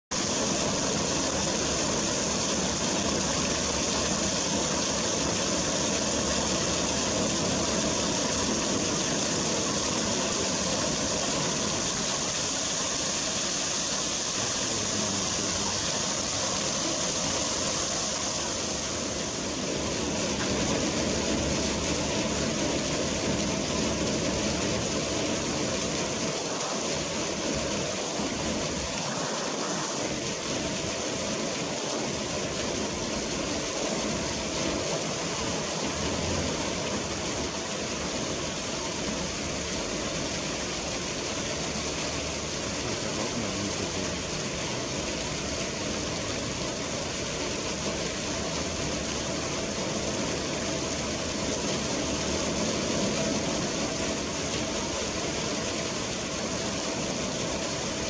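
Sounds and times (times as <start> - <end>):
fountain water splashing: 0.1 - 58.0.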